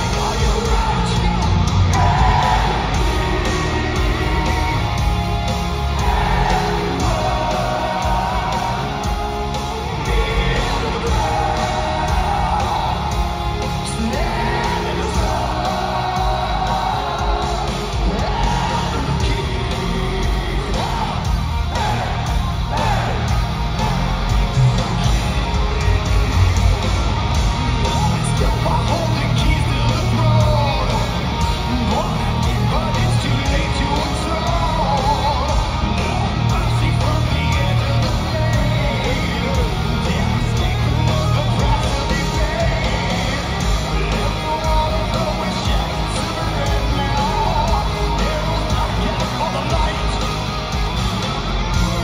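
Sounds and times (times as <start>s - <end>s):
distorted electric guitar: 0.0s - 52.0s
heavy metal band playing live: 0.0s - 52.0s.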